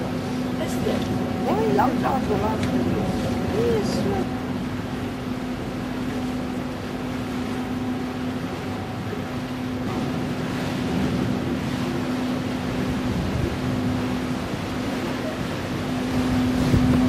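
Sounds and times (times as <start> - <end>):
broad rushing noise: 0.0 - 17.0
ship engines droning: 0.0 - 17.0.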